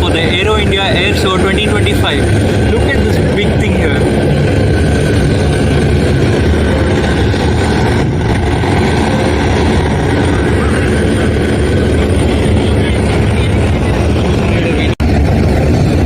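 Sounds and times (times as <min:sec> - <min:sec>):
aircraft engine rumble: 0:00.0 - 0:16.0.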